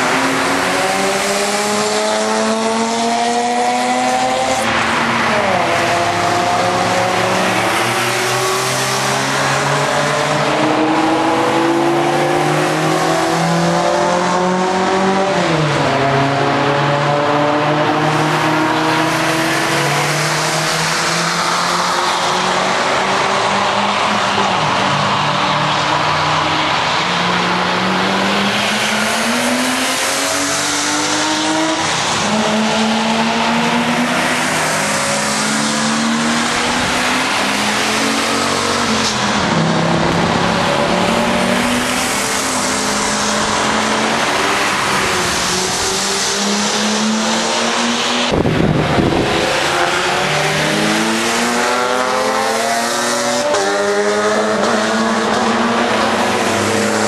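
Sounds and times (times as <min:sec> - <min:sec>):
loud rush of noise: 0:00.0 - 0:57.0
race cars revving past: 0:00.0 - 0:57.0.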